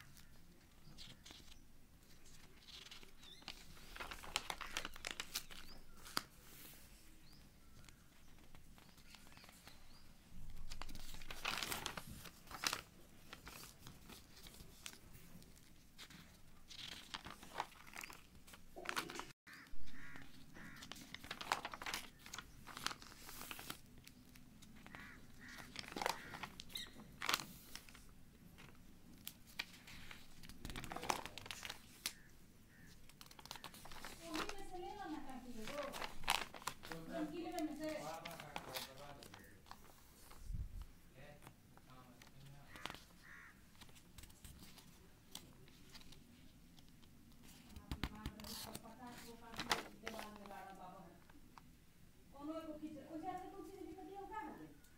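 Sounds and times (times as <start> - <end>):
paper pages rustling: 0.0 - 51.6
paper crinkles and handling clicks: 0.0 - 51.7.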